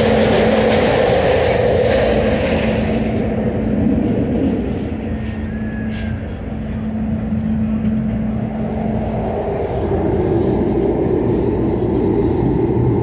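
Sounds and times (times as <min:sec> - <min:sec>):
trolley wheels rumbling on rail: 0:00.0 - 0:13.0.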